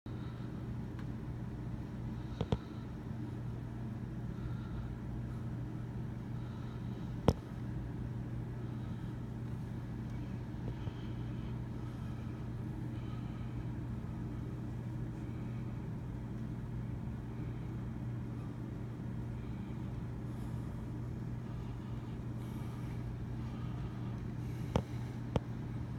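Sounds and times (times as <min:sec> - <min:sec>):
low droning hum: 0:00.1 - 0:25.9.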